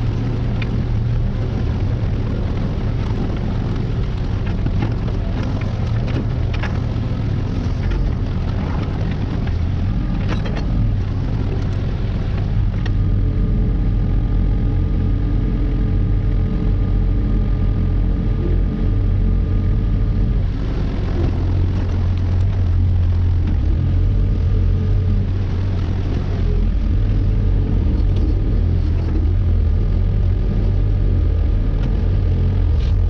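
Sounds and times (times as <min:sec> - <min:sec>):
earthmoving machine engine running: 0:00.0 - 0:33.0.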